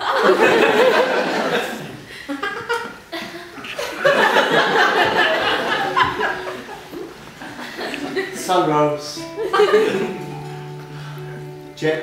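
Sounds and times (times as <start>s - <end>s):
audience laughing: 0.0s - 8.7s, 9.3s - 10.5s.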